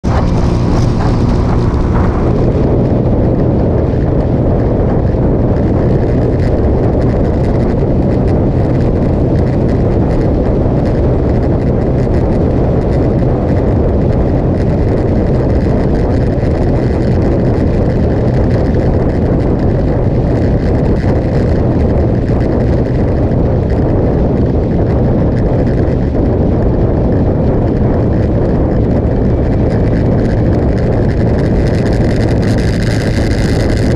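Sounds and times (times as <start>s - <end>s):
motorcycle engine cruising: 0.0s - 33.9s
road noise: 0.0s - 33.9s
wind buffeting microphone: 0.0s - 33.9s.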